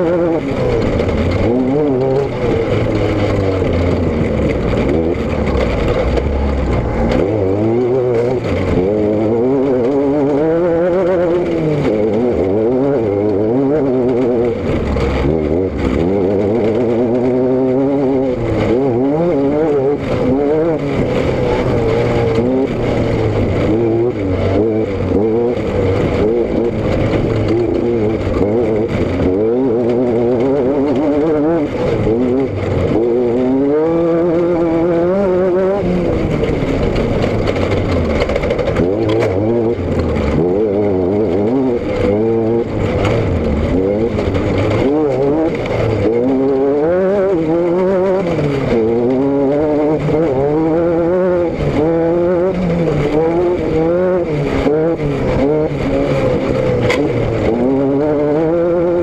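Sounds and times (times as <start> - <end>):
vehicle engine revving: 0.0 - 59.0.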